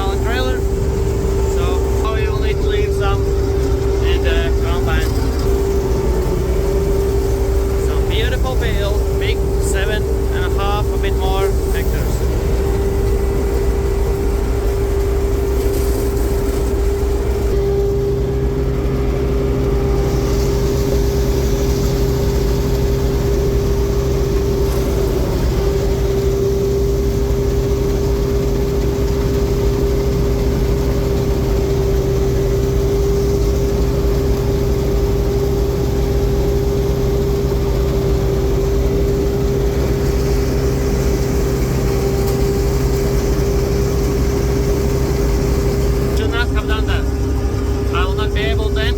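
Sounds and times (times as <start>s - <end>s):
combine harvester engine drone: 0.0s - 48.9s
high whine: 0.0s - 48.9s
low hum: 0.0s - 48.9s.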